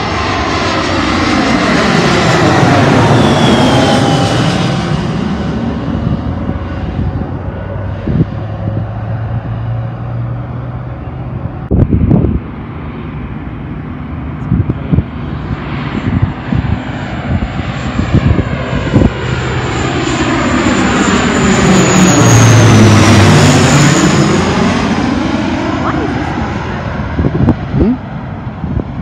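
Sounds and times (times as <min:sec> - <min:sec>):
high engine whine: 0:00.0 - 0:29.0
propeller drone: 0:00.0 - 0:29.0.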